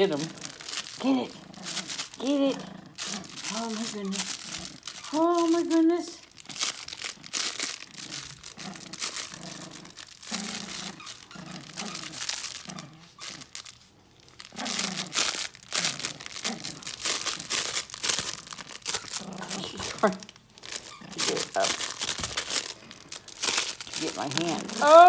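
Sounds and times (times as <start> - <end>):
paper crackling in dog toy: 0.0 - 25.0
puppy growling: 0.0 - 25.0.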